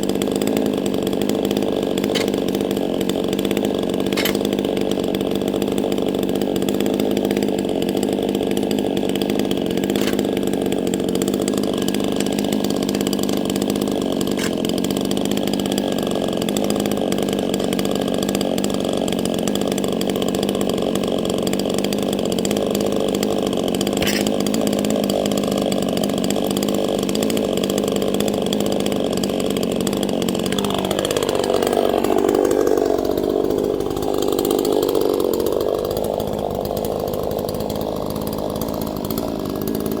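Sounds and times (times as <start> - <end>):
chainsaw running: 0.0 - 40.0.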